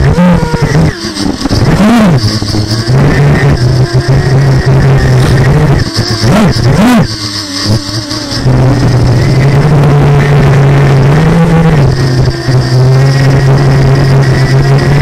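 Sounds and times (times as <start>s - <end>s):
drone motors buzzing hum: 0.0s - 15.0s.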